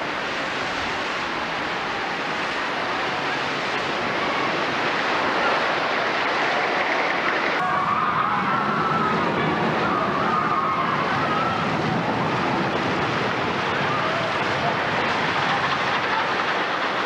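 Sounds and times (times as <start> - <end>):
amusement park roar: 0.0 - 17.0.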